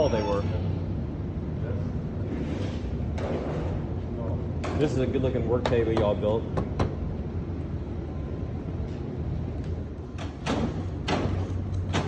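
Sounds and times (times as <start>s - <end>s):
shop machinery humming: 0.0s - 12.0s.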